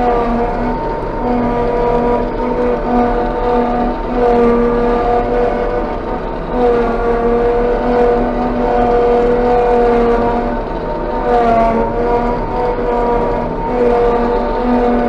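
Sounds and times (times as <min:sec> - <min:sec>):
harvester engine and chopping drum: 0:00.0 - 0:15.0
steady machine whine: 0:00.0 - 0:15.0.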